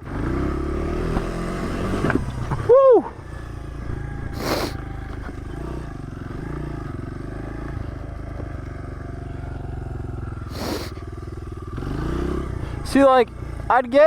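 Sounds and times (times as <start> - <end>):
small motorbike engine running: 0.0 - 14.0.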